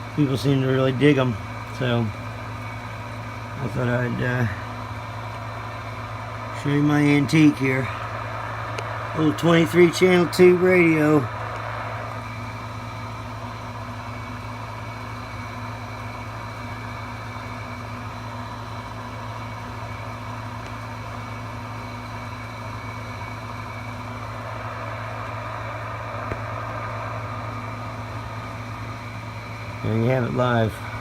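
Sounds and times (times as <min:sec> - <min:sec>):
low hum: 0:00.0 - 0:31.0
radio static hiss: 0:00.0 - 0:31.0.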